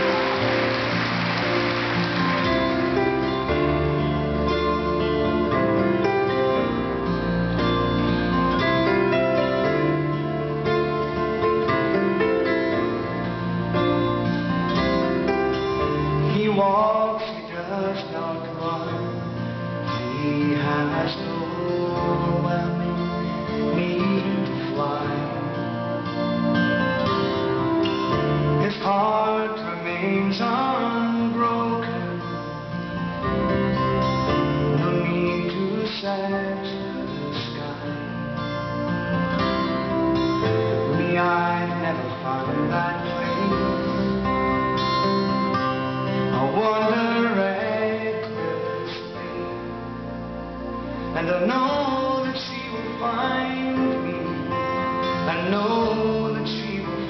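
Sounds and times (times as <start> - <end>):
slow pop ballad with guitar: 0.0 - 57.0.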